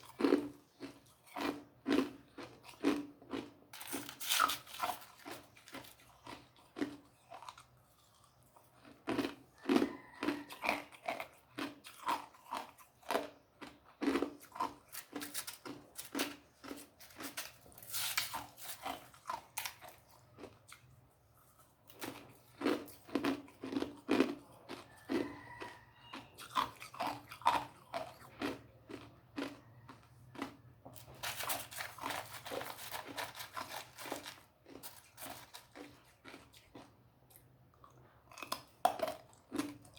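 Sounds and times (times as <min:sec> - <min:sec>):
person crunching ice cubes: 0:00.0 - 0:20.9, 0:21.9 - 0:39.9.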